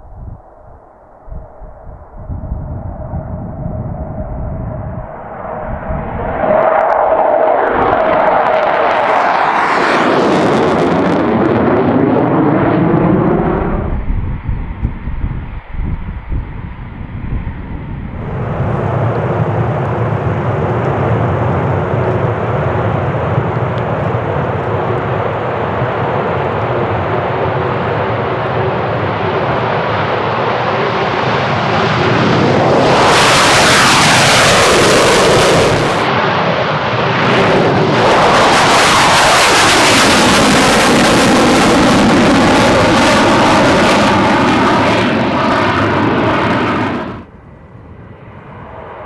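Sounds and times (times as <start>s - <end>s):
jet rumble: 0.0s - 49.0s
fighter jet passing loudly: 1.4s - 15.6s, 16.7s - 49.0s.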